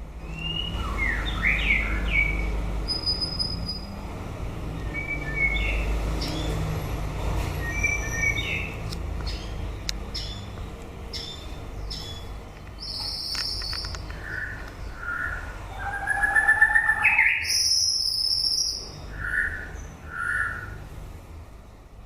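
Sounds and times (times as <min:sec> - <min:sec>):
bird singing whistled notes: 0:00.2 - 0:04.0, 0:04.8 - 0:06.6, 0:07.6 - 0:20.8.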